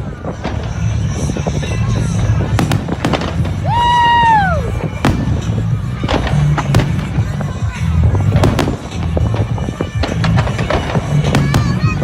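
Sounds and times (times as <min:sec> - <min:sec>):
fireworks bangs: 0:00.0 - 0:12.0
music: 0:00.0 - 0:12.0.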